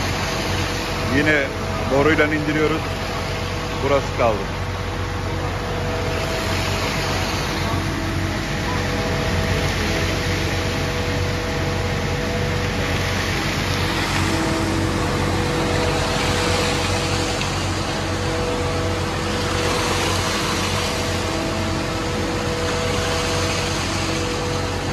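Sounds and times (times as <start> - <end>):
concrete mixer truck humming: 0.0 - 24.9
steady whine: 0.0 - 24.9.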